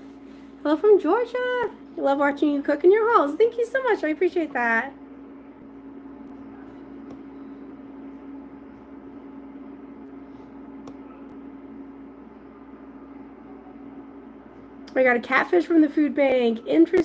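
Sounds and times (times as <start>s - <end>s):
appliance hum with hiss: 0.0s - 17.0s.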